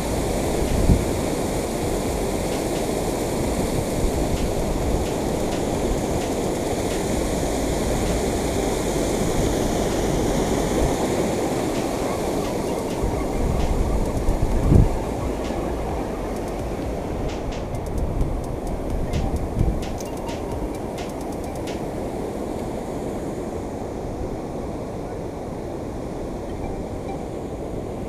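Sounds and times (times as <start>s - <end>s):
water rushing over dam spillway: 0.0s - 26.2s.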